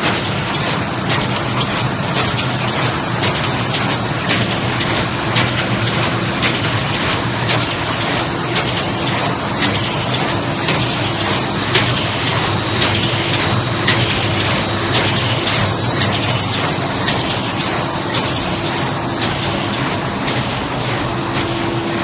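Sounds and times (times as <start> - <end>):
printing machine hissing and whirring: 0.0 - 22.0
sharp machine clack: 0.0 - 22.0.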